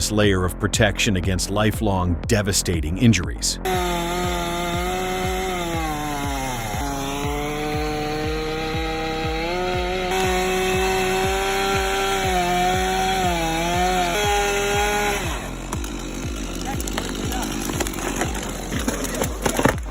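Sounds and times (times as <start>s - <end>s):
low pulsing: 0.0s - 19.9s
chainsaw running at high revs: 3.6s - 19.9s.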